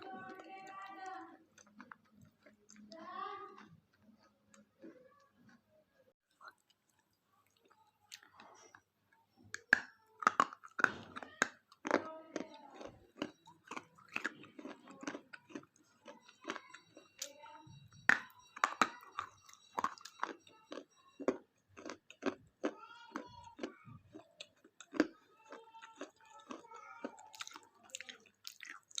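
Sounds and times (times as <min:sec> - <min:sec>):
chewing crunchy wafer bar: 0:00.0 - 0:29.0.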